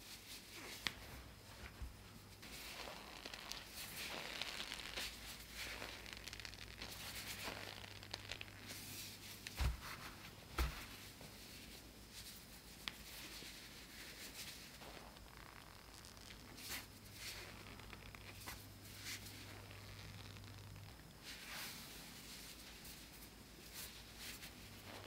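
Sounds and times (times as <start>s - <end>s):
sugar strands crinkling and rustling: 0.6s - 10.7s, 12.8s - 25.0s.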